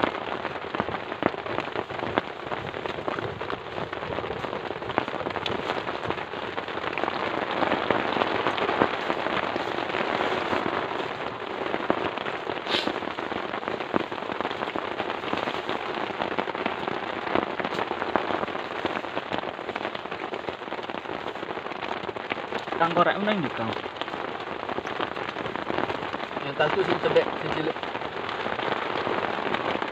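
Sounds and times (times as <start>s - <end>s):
heavy rain falling: 0.0s - 29.9s
raindrops tapping: 0.0s - 29.9s.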